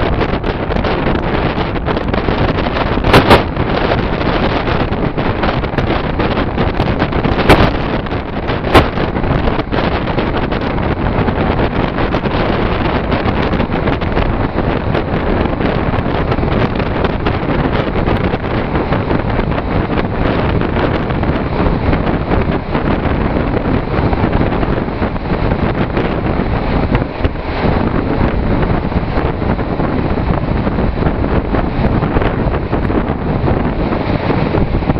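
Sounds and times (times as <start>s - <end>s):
passenger train running: 0.0s - 34.9s
wind buffeting microphone: 0.0s - 34.9s.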